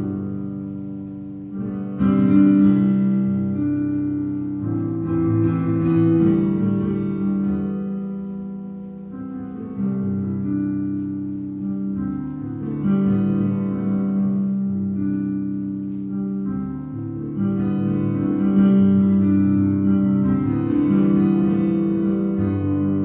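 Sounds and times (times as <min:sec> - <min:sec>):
keyboard: 0:00.0 - 0:23.0.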